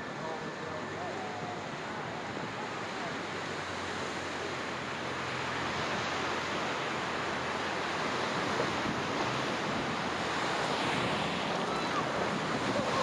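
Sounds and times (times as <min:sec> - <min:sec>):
whitewater rapid roaring: 0:00.0 - 0:13.0.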